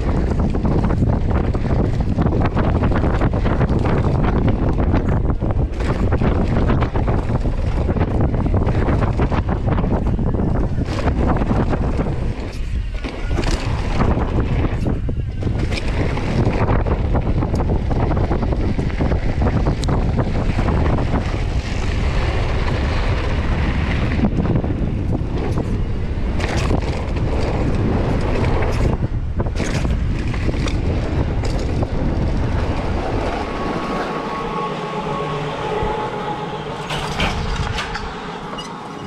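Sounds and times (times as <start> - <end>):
bike frame and chain rattling: 0.0 - 24.1, 24.9 - 33.5
wind buffeting microphone: 0.0 - 39.0.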